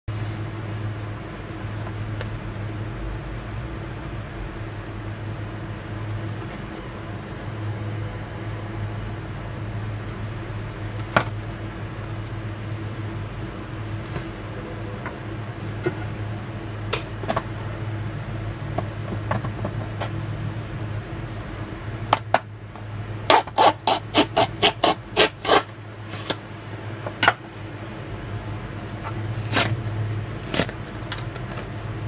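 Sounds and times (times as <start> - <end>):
low machine hum: 0.1 - 32.0.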